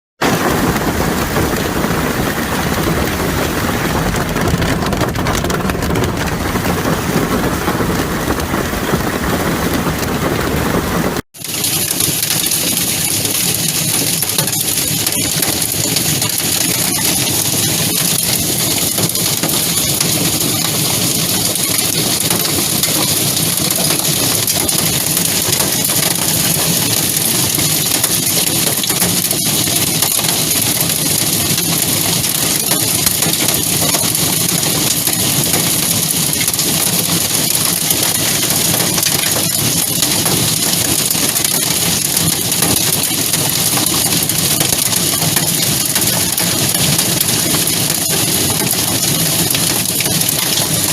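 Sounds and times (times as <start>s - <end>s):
hail rattling: 0.2s - 50.9s.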